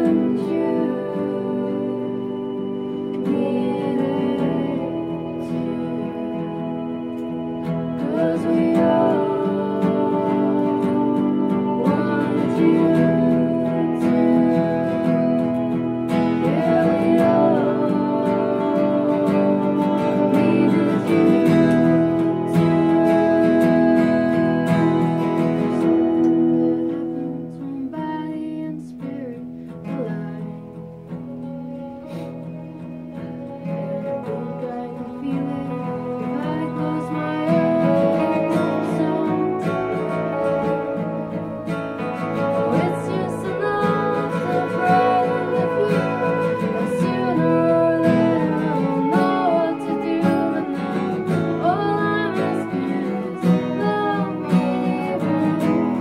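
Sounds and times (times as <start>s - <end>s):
acoustic guitar: 0.0s - 56.0s
electric keyboard: 0.0s - 56.0s
woman singing: 0.0s - 56.0s.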